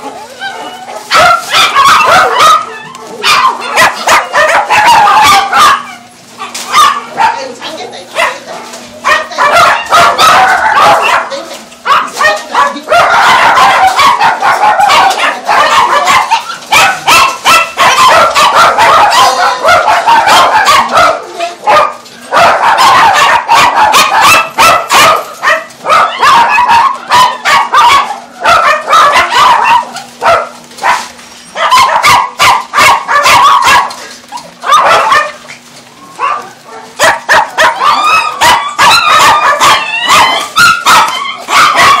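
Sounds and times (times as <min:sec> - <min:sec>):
dogs barking: 0:00.0 - 0:42.0.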